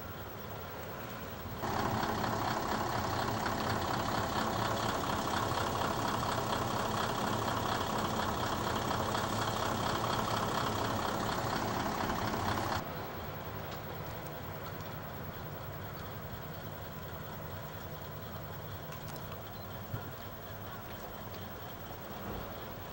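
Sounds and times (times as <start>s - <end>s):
railcar diesel engine passing: 0.0s - 22.9s.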